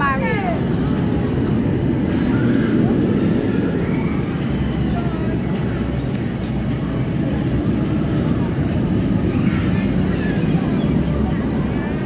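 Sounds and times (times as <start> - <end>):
crowd voices: 0.0 - 12.0.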